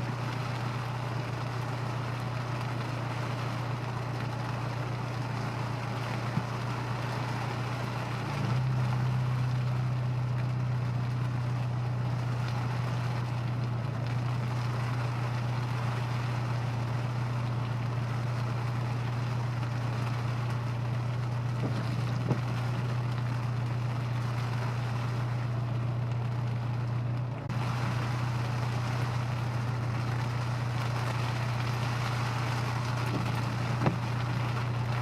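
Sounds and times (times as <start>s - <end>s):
car engine droning: 0.0s - 35.0s
road noise hiss: 0.0s - 35.0s.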